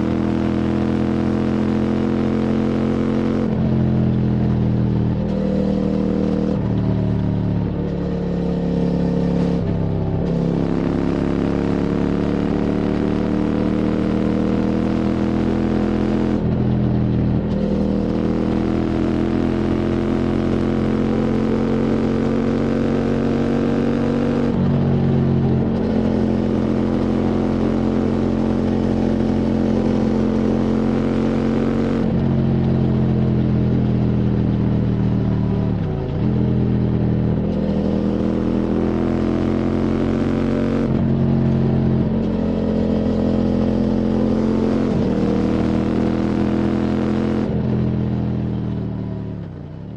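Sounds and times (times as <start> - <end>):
gear changes: 0.0 - 49.9
motorcycle engine accelerating hard: 0.0 - 49.9.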